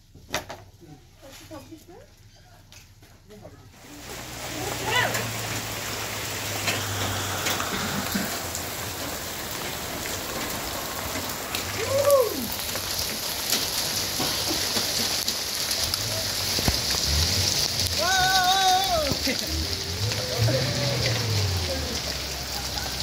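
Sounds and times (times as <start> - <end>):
rain pattering: 0.9 - 23.0.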